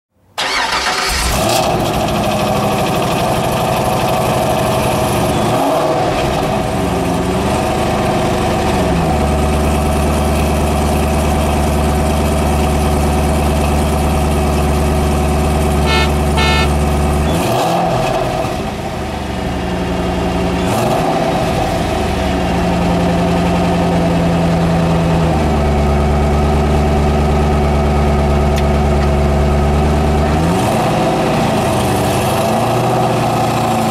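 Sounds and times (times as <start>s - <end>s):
engine idling and revving: 0.4s - 33.9s.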